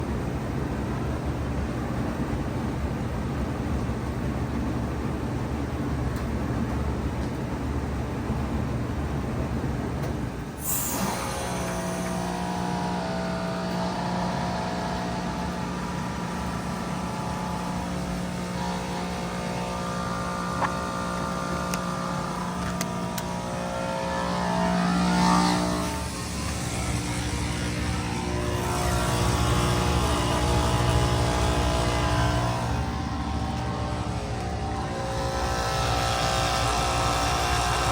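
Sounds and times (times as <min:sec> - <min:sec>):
heat pump humming: 0:00.0 - 0:37.9.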